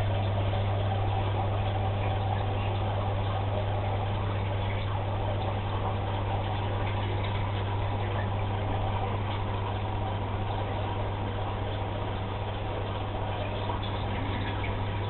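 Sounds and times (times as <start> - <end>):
aquarium pump hum: 0.0 - 15.0.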